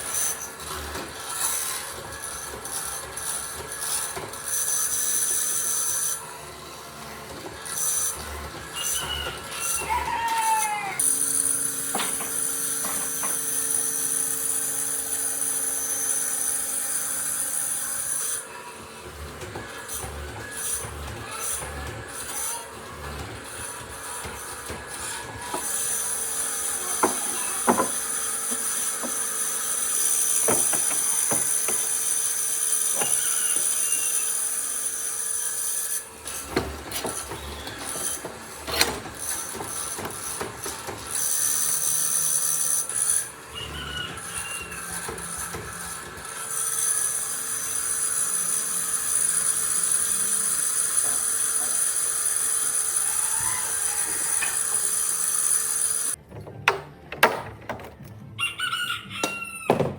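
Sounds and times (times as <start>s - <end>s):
power tool running on wood: 0.0s - 56.2s.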